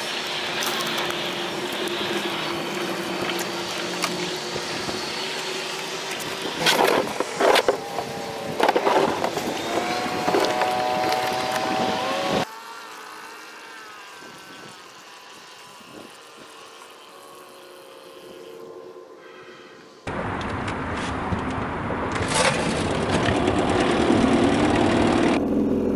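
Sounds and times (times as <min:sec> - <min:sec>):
outboard motor running: 0:00.0 - 0:19.1, 0:22.4 - 0:25.9.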